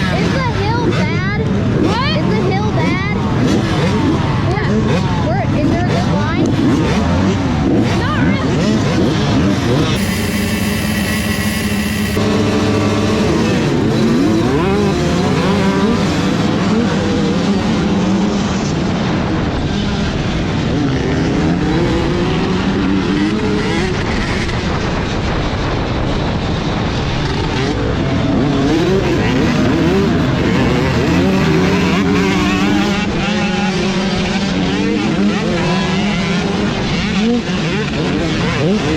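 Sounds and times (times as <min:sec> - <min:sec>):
motocross bike engines revving: 0:00.0 - 0:25.6, 0:26.3 - 0:38.9.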